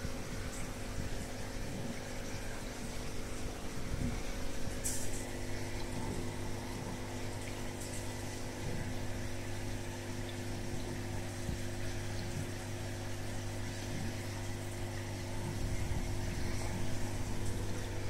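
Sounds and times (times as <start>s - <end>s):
aquarium pump humming: 0.0s - 18.0s.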